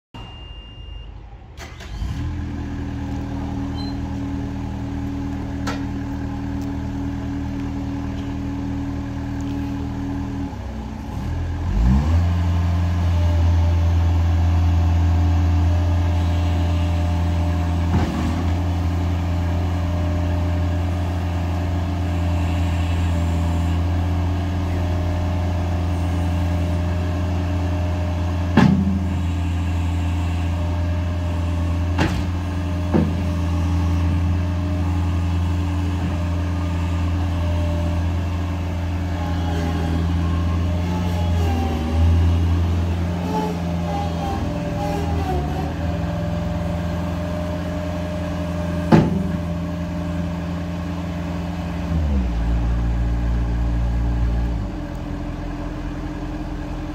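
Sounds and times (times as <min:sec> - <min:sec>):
diesel engine running: 0:00.2 - 0:56.9.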